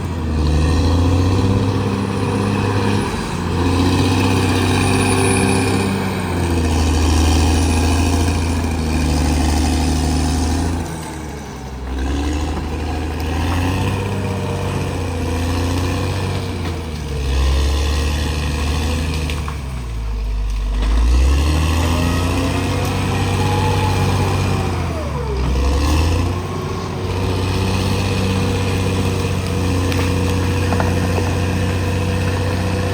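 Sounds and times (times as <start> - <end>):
bulldozer diesel engine working: 0.0 - 32.9.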